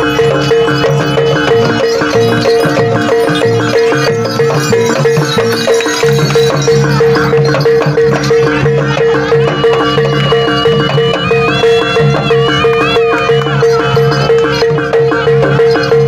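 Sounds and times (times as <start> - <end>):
high held melody line: 0.0 - 15.3
kendang drums: 0.0 - 16.0
metal percussion beat: 0.0 - 16.0.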